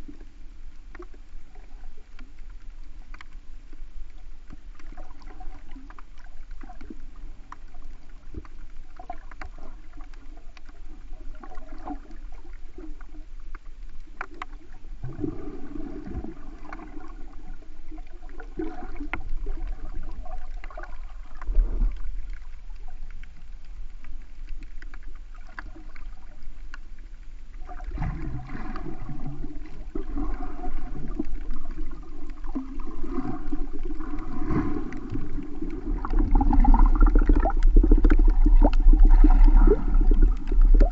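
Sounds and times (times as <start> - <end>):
faint clicks: 0.0 - 14.8, 16.0 - 40.9
underwater sloshing and gurgling: 0.0 - 40.9.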